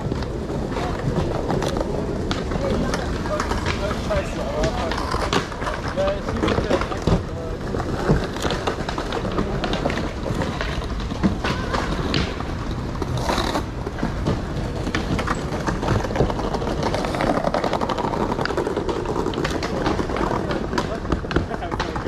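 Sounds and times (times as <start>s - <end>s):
skateboards clacking on ground: 0.0s - 22.0s
skateboards rolling on paving: 0.0s - 22.0s.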